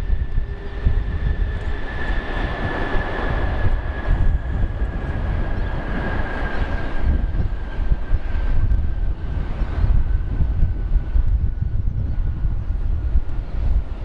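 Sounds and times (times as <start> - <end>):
jet engine whine: 0.0 - 14.0
low rumble: 0.0 - 14.0
rushing jet noise: 0.0 - 14.0.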